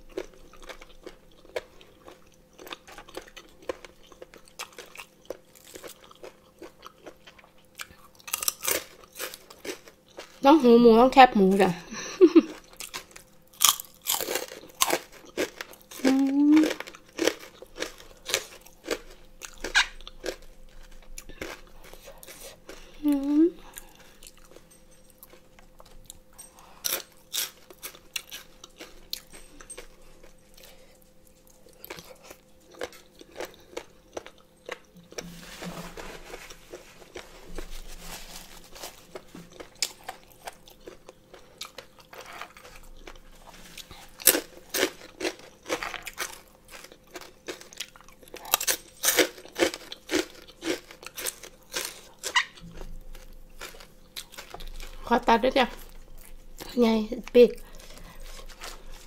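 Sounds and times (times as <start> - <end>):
crunchy chewing: 0.0 - 10.4, 12.4 - 59.0.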